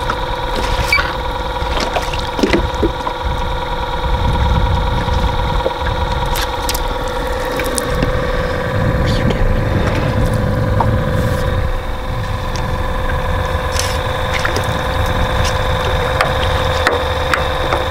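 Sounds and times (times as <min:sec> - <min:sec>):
boat motor running: 0:00.0 - 0:17.9.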